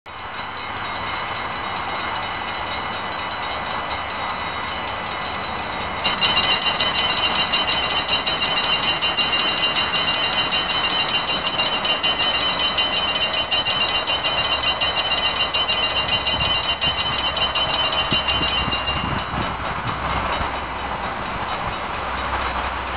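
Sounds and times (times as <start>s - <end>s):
steady high whine: 0.1s - 21.9s
level crossing warning bells: 0.1s - 22.9s.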